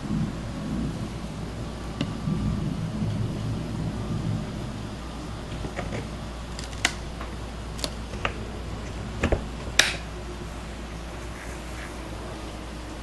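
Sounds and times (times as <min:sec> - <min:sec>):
low hum: 0:00.0 - 0:13.0
steady hiss: 0:00.0 - 0:13.0.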